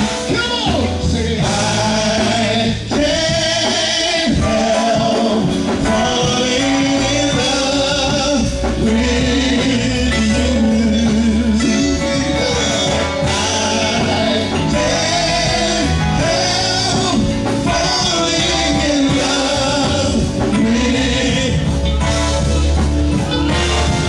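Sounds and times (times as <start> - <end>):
band accompaniment: 0.0 - 24.0
gospel singing: 0.0 - 24.0.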